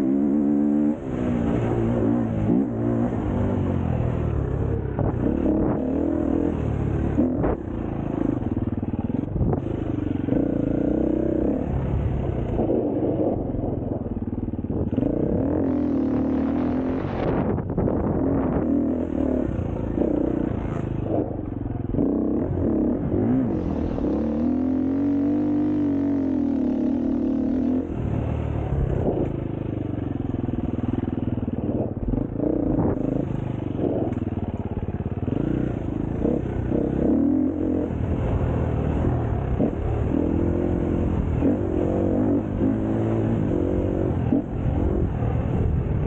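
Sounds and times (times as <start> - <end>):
engine revving: 0.0 - 29.8, 30.8 - 34.4, 35.1 - 46.0.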